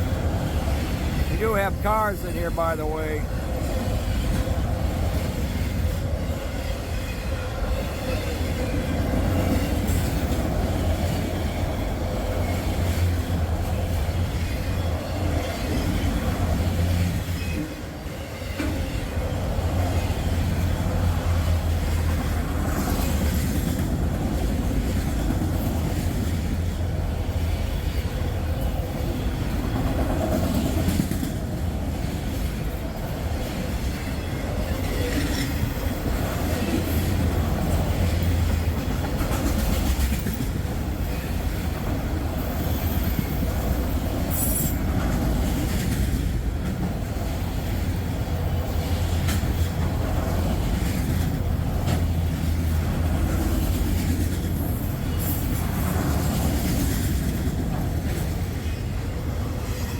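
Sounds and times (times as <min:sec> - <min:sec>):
train wheels clattering on rail: 0:03.2 - 0:59.9.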